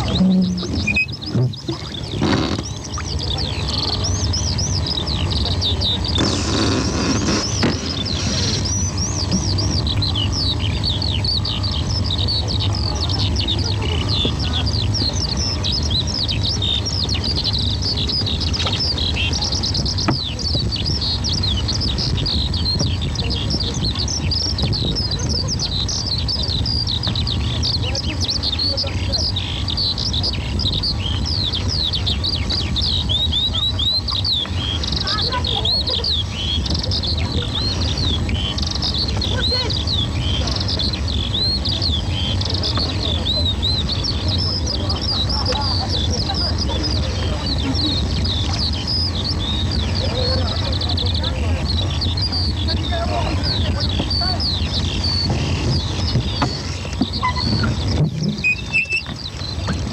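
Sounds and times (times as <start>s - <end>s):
small birds chirping: 0.0s - 59.9s
steady low rumble: 0.0s - 59.9s.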